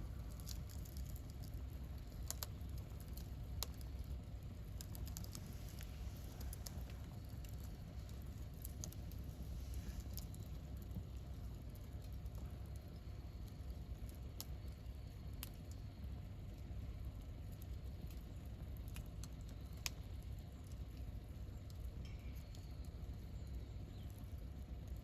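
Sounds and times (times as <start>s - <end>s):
campfire low rumble: 0.0s - 25.0s
wood crackling and popping: 0.0s - 25.0s.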